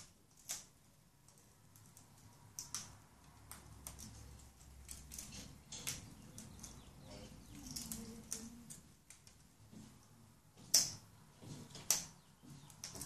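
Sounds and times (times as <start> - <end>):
parrot chewing branches: 0.0 - 13.0.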